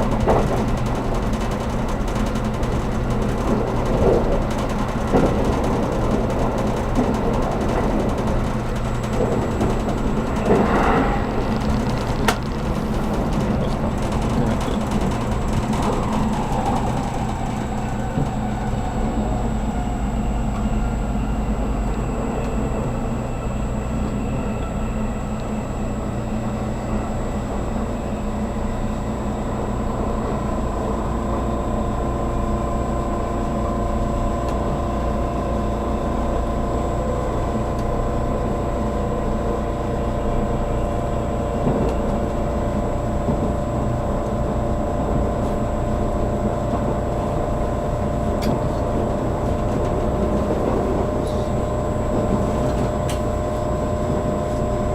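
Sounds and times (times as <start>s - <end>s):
steady whine: 0.0s - 54.9s
train wheels rumbling on rails: 0.0s - 54.9s.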